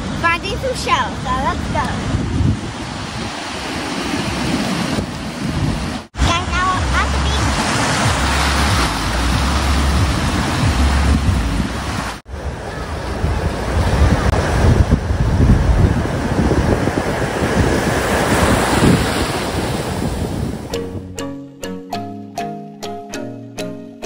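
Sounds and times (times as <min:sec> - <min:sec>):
ocean surf on beach: 0:00.0 - 0:21.0
wind buffeting microphone: 0:00.0 - 0:21.1.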